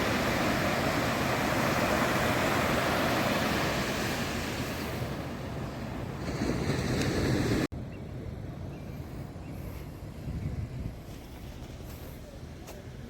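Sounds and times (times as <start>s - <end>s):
ocean surf on sandy beach: 0.0s - 13.0s.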